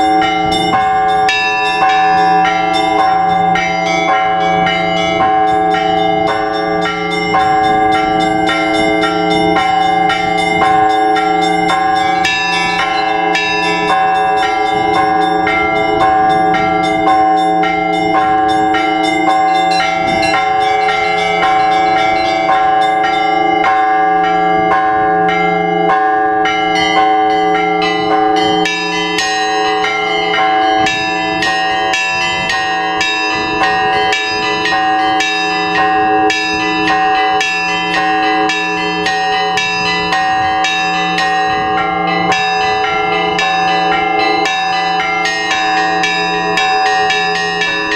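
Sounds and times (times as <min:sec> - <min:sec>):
large bells humming: 0:00.0 - 0:47.9
small bells struck rapidly: 0:00.0 - 0:47.9.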